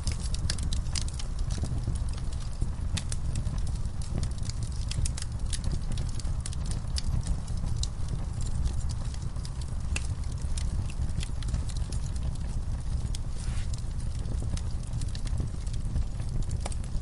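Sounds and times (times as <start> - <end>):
burning logs crackling: 0.0 - 17.0
fire flames rumbling: 0.0 - 17.0.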